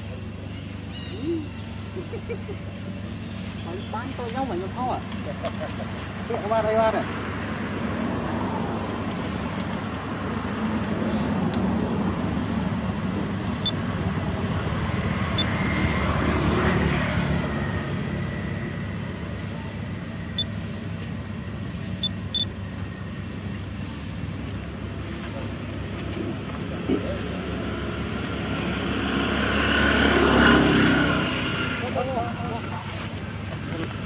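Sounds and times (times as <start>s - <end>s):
road vehicle passing by: 1.2s - 34.0s.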